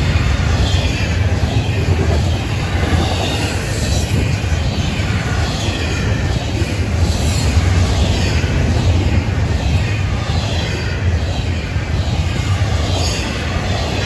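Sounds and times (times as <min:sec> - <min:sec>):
freight cars rumbling on rails: 0:00.0 - 0:14.0.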